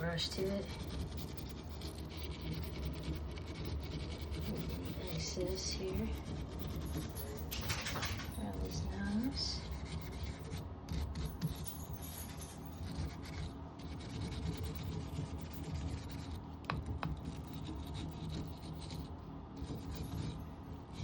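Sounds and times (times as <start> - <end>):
wire brush scratching: 0.0 - 21.0.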